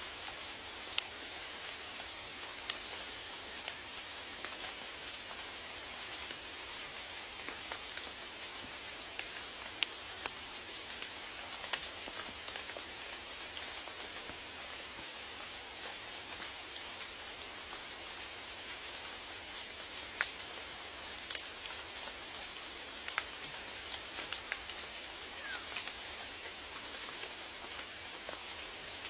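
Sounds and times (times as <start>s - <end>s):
raindrops ticking on a surface: 0.0s - 29.0s
steady rain hiss: 0.0s - 29.0s.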